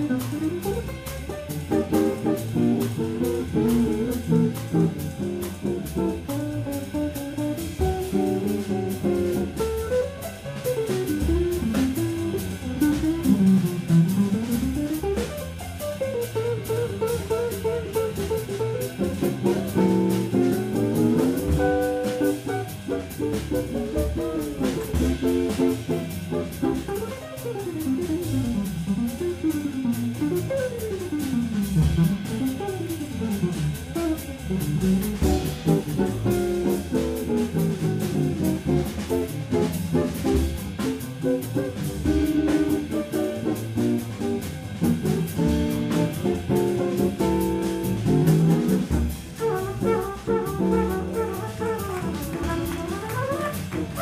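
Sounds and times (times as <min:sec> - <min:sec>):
double bass: 0:00.0 - 0:54.0
drum kit: 0:00.0 - 0:54.0.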